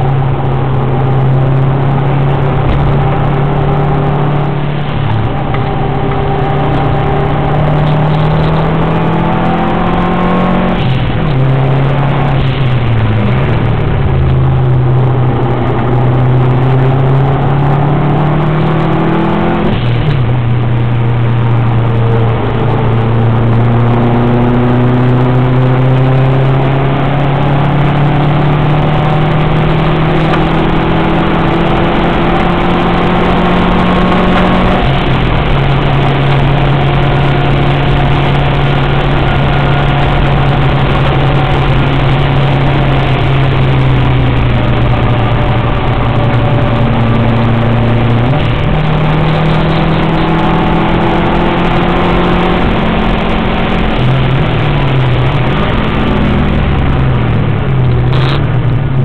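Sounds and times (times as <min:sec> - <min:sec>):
car engine pulling hard: 0:00.0 - 0:59.0
road and wind noise: 0:00.0 - 0:59.0.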